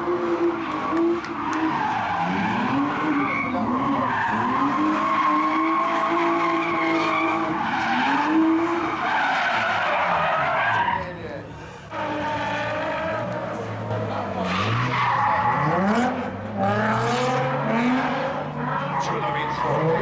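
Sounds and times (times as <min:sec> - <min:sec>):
car engine revving: 0:00.0 - 0:10.4, 0:11.5 - 0:20.0
tyres skidding: 0:00.0 - 0:20.0.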